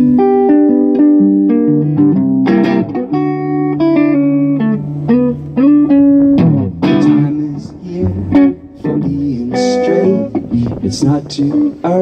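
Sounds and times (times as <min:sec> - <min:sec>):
guitar playing: 0:00.0 - 0:12.0.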